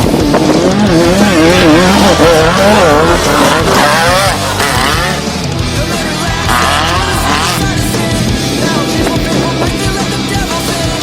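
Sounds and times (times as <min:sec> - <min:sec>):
race vehicle engine revving: 0:00.0 - 0:11.0.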